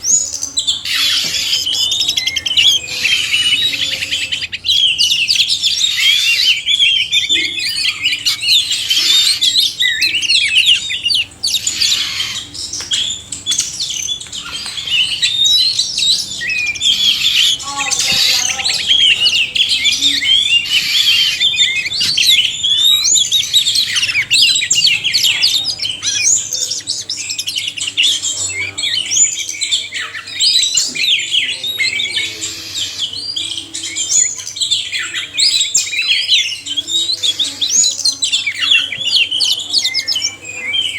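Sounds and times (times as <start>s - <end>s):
birds singing whistles and chirps: 0.0s - 40.9s
low harsh bird call: 0.0s - 40.9s.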